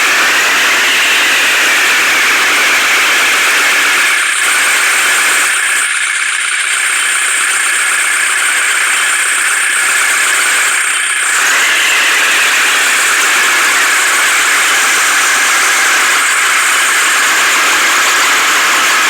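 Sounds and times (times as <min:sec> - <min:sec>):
heavy machine engine running: 0:00.0 - 0:06.2, 0:09.8 - 0:19.0.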